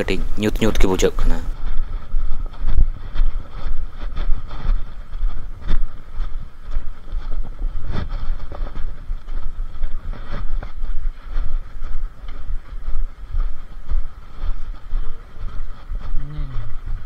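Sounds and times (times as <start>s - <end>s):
faint steady hum: 0.0s - 17.0s
microphone jostling rumble: 0.0s - 17.0s.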